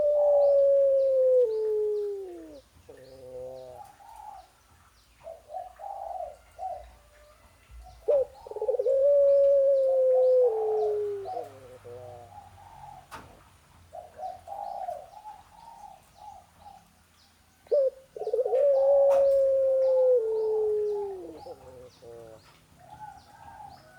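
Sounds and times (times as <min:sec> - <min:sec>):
dove cooing: 0:00.0 - 0:04.6, 0:05.2 - 0:13.3, 0:13.9 - 0:16.8, 0:17.6 - 0:23.9
small birds chirping: 0:00.0 - 0:23.9.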